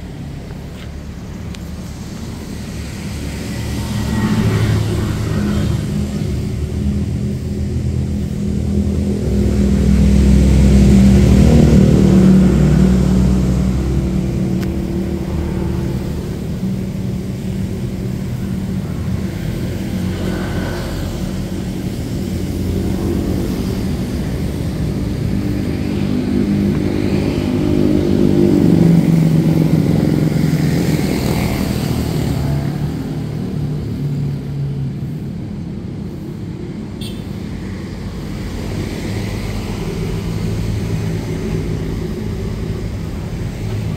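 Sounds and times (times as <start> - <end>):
vehicles driving past: 0.0 - 43.9.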